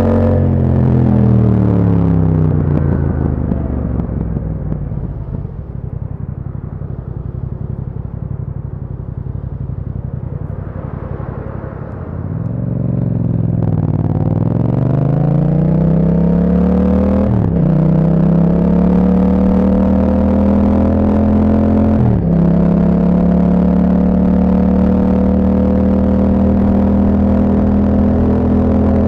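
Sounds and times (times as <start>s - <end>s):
motorcycle engine revving and idling: 0.0s - 29.0s.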